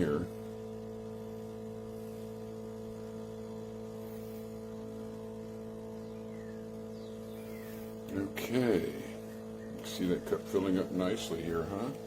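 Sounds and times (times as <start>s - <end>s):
espresso machine pump humming: 0.0s - 12.0s.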